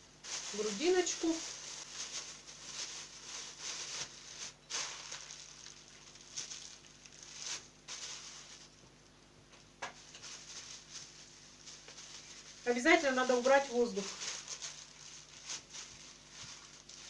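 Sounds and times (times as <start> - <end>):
plastic bags rustling and crinkling: 0.0 - 9.0, 9.8 - 17.0.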